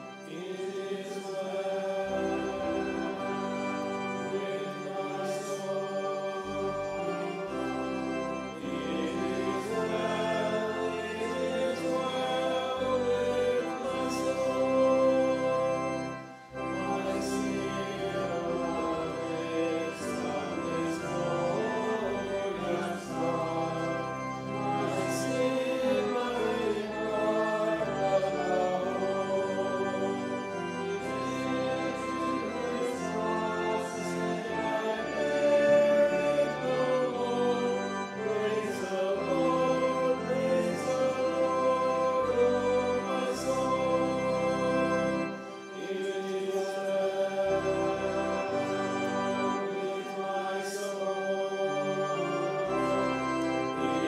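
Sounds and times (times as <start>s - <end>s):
congregation singing a hymn: 0.0s - 54.0s
organ accompaniment: 0.0s - 54.0s.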